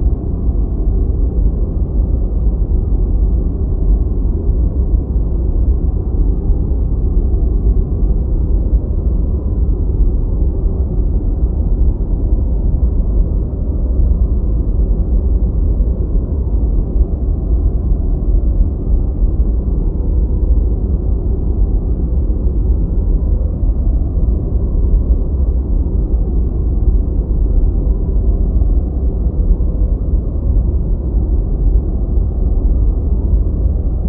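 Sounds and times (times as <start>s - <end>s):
deep white noise: 0.0s - 34.0s.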